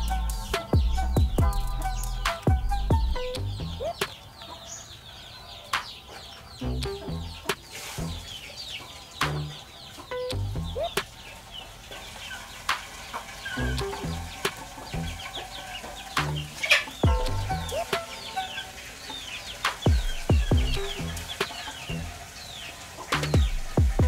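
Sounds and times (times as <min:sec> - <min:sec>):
background music with bass: 0:00.0 - 0:04.1, 0:06.5 - 0:08.4, 0:09.2 - 0:11.4, 0:12.7 - 0:24.0
chickens clucking: 0:00.0 - 0:24.0
chicks cheeping: 0:00.0 - 0:24.0.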